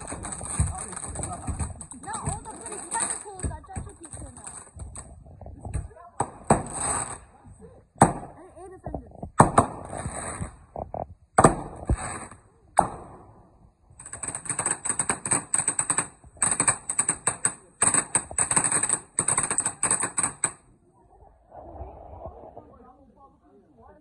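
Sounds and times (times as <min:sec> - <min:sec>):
firework bangs: 0:00.0 - 0:08.5, 0:09.3 - 0:20.7
fireworks crackling: 0:00.0 - 0:08.5, 0:09.2 - 0:20.8.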